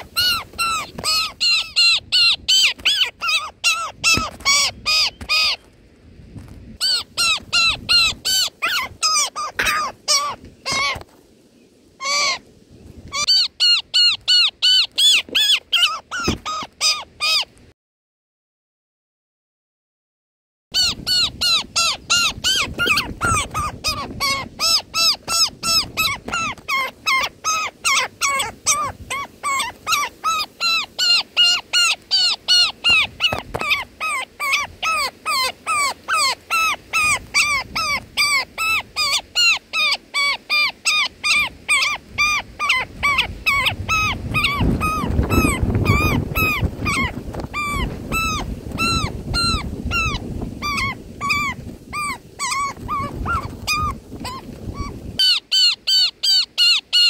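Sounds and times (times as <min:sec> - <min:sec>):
bird nestling calling harshly: 0:00.0 - 0:05.7, 0:06.8 - 0:11.1, 0:12.0 - 0:12.4, 0:13.0 - 0:17.5, 0:20.8 - 0:57.0.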